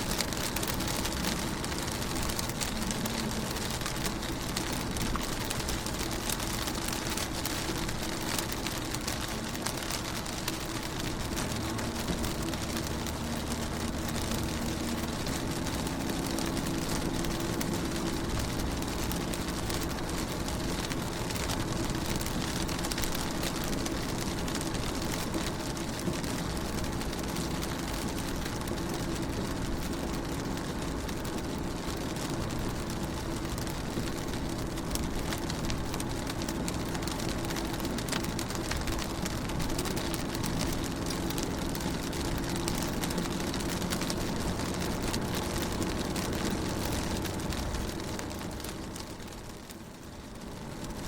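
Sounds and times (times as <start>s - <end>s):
rain on car window: 0.0s - 51.0s.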